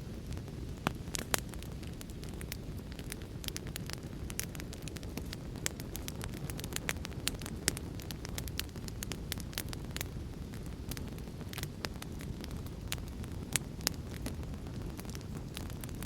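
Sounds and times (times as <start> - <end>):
wood fire crackling in fireplace: 0.0 - 16.0.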